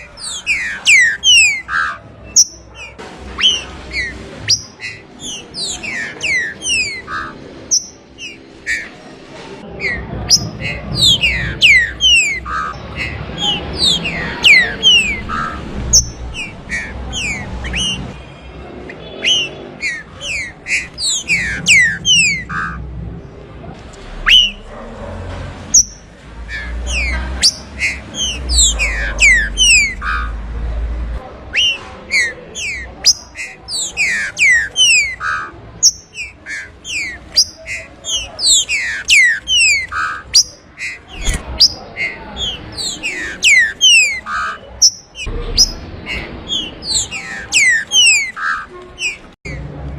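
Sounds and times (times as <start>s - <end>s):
bird whistling song: 0.0s - 9.0s, 9.8s - 18.2s, 18.9s - 22.8s, 24.2s - 24.6s, 25.7s - 30.4s, 31.5s - 49.6s.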